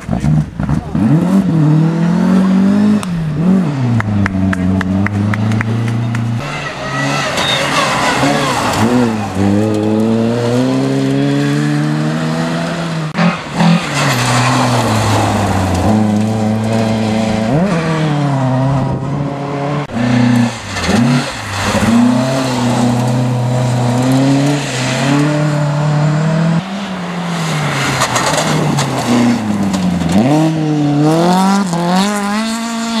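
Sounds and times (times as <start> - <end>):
rally car engines revving: 0.0 - 33.0
cars passing on gravel: 1.7 - 33.0.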